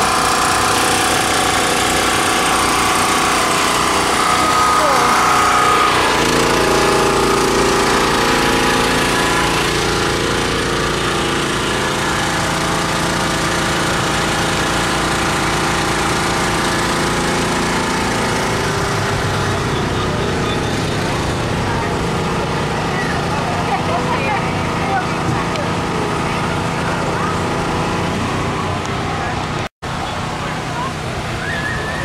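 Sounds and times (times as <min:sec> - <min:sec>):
generator engine running: 0:00.0 - 0:32.0.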